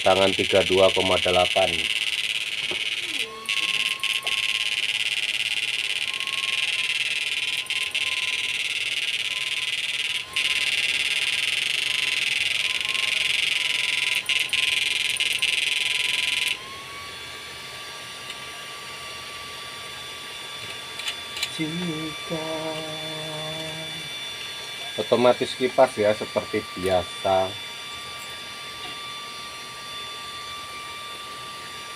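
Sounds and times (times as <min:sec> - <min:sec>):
thin constant whine: 0:00.0 - 0:31.9.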